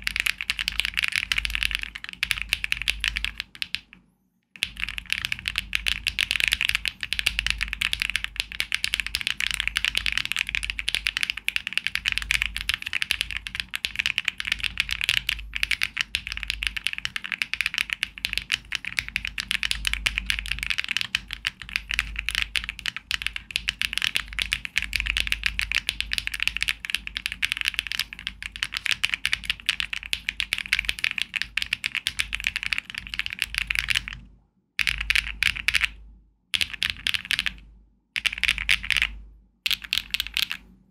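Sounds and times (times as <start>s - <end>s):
fast typing on mechanical keyboard: 0.0s - 4.0s, 4.6s - 34.2s, 34.8s - 36.0s, 36.6s - 37.6s, 38.2s - 40.6s.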